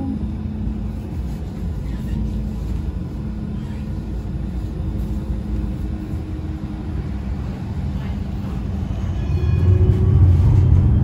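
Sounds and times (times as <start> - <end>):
rail vehicle rumbling: 0.0 - 11.0.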